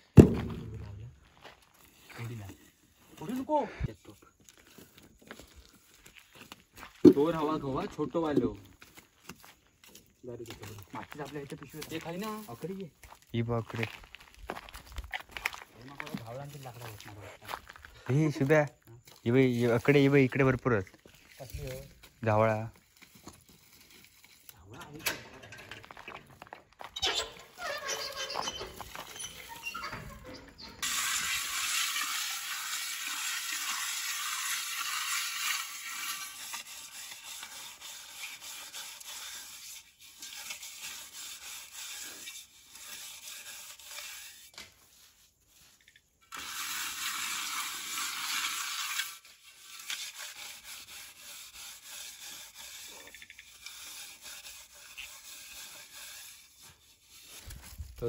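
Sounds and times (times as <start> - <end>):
hands scraping ash on pot: 1.4 - 25.0, 25.7 - 58.0.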